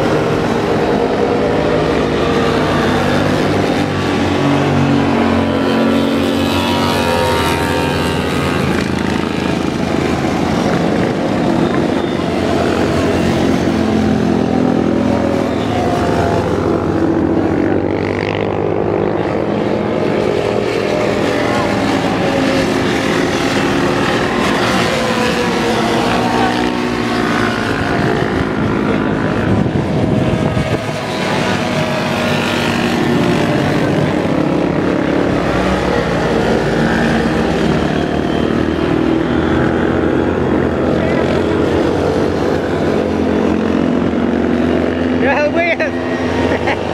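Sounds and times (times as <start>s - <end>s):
motorcycles passing: 0.0s - 46.9s.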